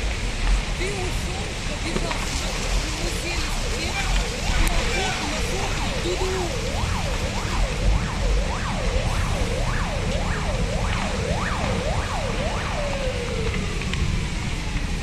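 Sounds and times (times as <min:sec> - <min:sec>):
low rumble: 0:00.0 - 0:15.0
emergency siren yelping: 0:01.9 - 0:15.0.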